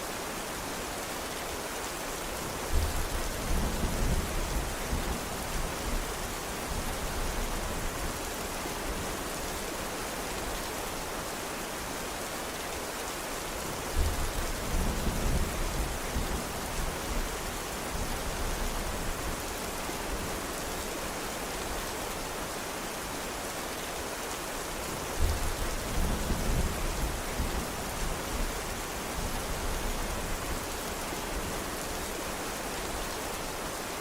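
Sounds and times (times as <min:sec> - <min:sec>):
steady rain: 0:00.0 - 0:34.0.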